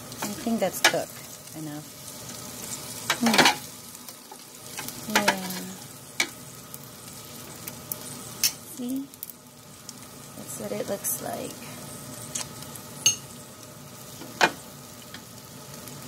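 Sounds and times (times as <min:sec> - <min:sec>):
pork sizzling in air fryer: 0:00.0 - 0:16.0.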